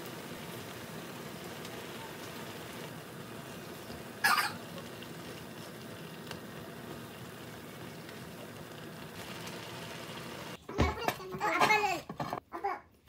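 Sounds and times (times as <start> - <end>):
noodles sizzling in a frying pan: 0.0 - 12.4.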